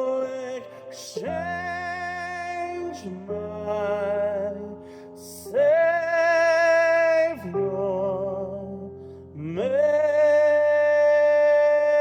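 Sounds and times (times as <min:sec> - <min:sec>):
person singing worship song: 0:00.0 - 0:12.0.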